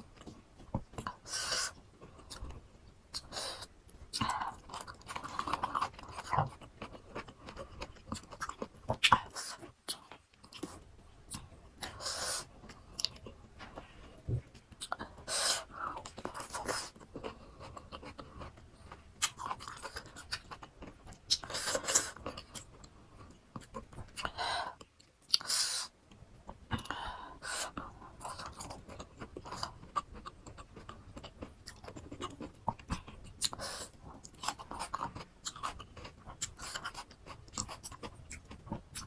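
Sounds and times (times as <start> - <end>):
chewing crunchy fruit: 4.1 - 25.5, 27.6 - 39.0.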